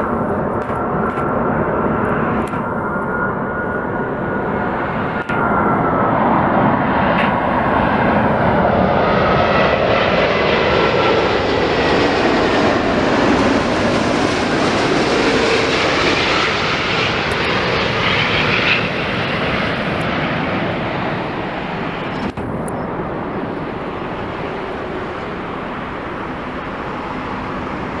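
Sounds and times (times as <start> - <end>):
engine whine: 0.0 - 28.0
jet airliner passing by: 0.0 - 28.0.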